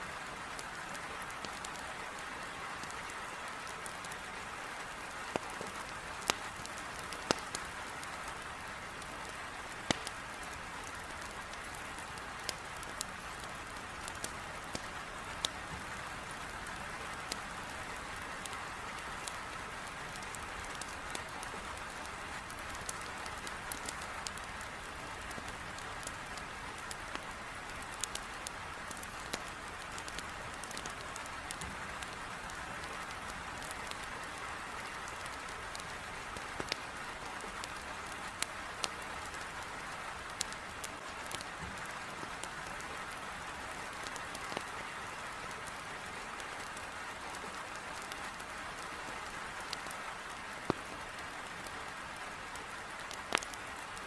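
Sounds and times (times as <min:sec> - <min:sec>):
heavy rain on a window: 0:00.0 - 0:54.0
wood fire crackling and popping: 0:00.4 - 0:54.0.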